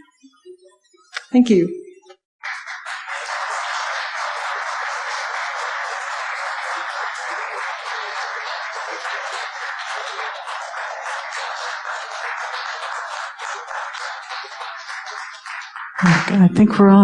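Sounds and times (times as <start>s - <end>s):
audience applauding: 2.4s - 16.9s.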